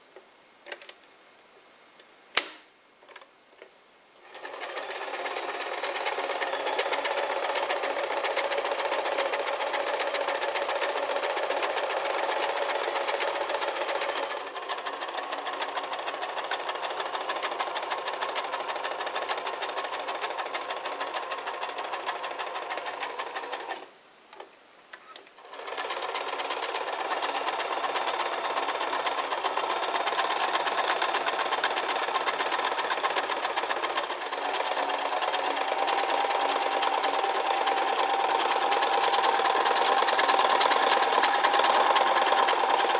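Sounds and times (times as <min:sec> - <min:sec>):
sewing machine running: 0:04.2 - 0:23.9, 0:25.4 - 0:42.9.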